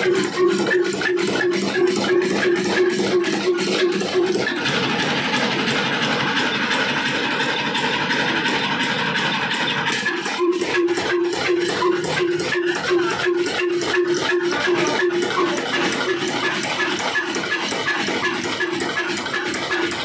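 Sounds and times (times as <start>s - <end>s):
diesel engine knocking: 0.0s - 20.0s
pulsing hum: 0.0s - 20.0s.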